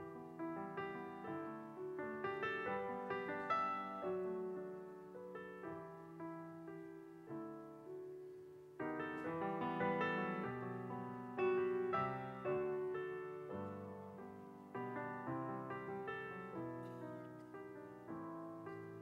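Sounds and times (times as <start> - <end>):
grand piano playing chords: 0.0 - 19.0.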